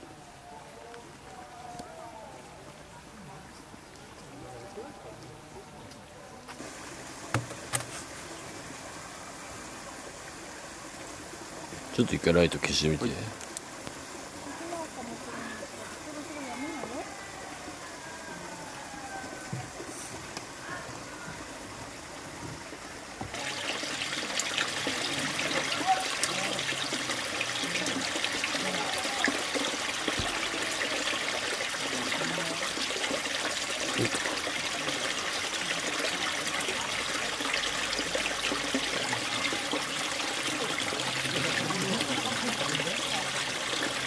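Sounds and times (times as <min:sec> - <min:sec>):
stream trickling and babbling: 0:00.0 - 0:44.0.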